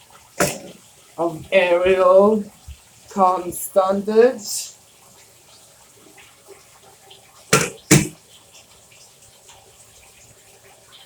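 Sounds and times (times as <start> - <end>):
tap running water into tub: 0.0 - 11.0.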